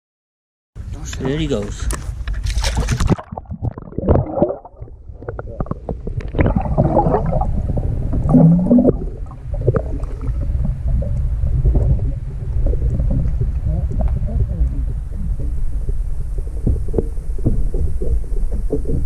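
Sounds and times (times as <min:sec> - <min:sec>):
underwater low rumble: 0:00.8 - 0:19.0
muffled water gurgling: 0:01.3 - 0:19.0.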